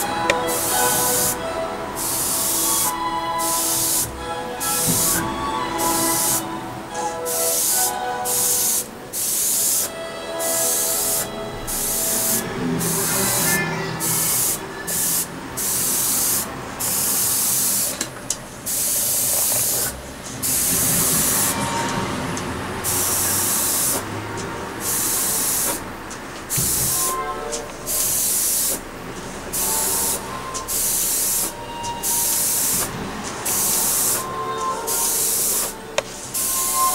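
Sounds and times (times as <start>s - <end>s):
airbrush spraying hissing bursts: 0.0s - 18.0s, 18.7s - 21.7s, 22.8s - 24.1s, 24.8s - 25.8s, 26.5s - 28.9s, 29.5s - 36.9s.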